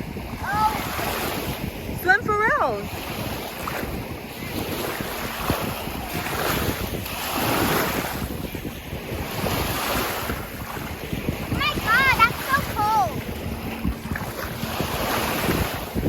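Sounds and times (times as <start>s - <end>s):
lake waves washing at shore: 0.0s - 16.0s
wind buffeting microphone: 0.0s - 16.0s.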